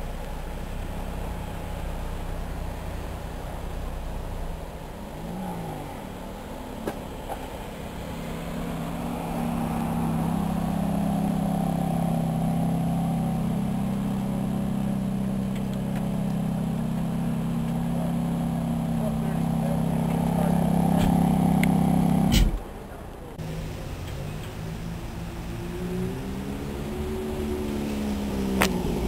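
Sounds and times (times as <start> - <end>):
sports car engine idling: 0.0 - 25.7.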